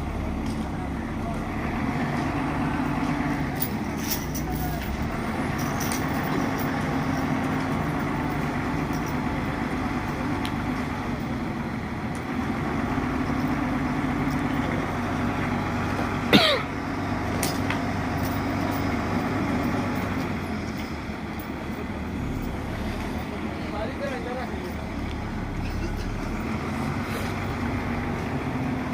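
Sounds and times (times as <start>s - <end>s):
diesel engine under load: 0.0s - 28.9s.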